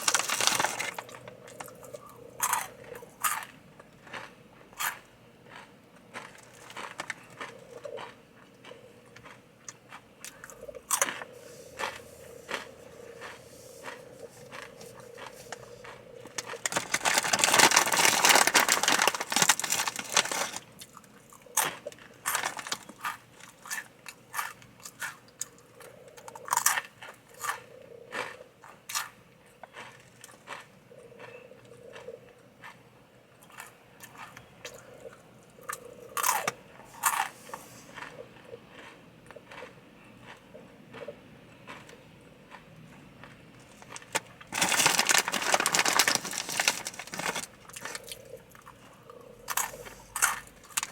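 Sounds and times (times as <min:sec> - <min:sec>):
tortilla chips crunching: 0:00.0 - 0:25.6, 0:26.4 - 0:32.0, 0:33.4 - 0:41.0, 0:43.2 - 0:50.9.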